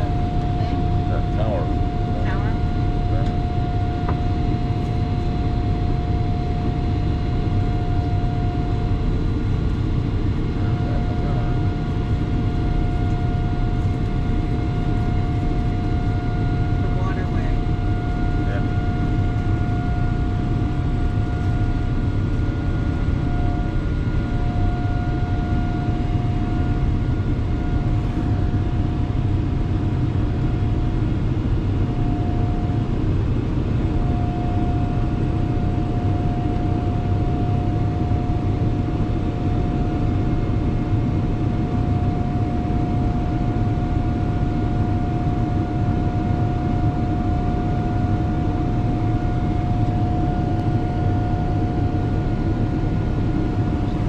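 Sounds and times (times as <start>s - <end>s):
airliner cabin engine rumble: 0.0s - 54.0s
steady whine: 0.0s - 54.0s.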